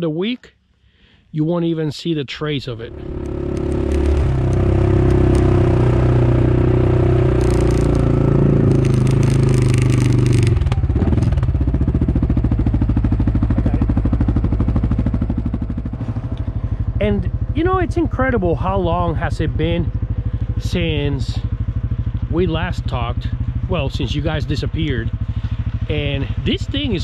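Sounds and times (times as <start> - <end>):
tractor diesel engine running: 2.8 - 27.0.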